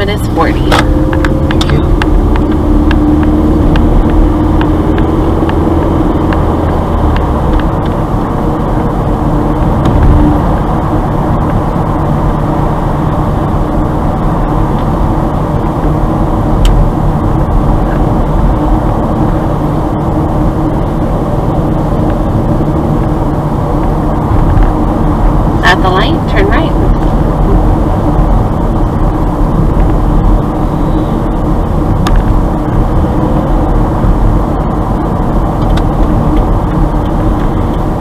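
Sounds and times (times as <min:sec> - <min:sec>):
car engine hum: 0:00.0 - 0:38.0.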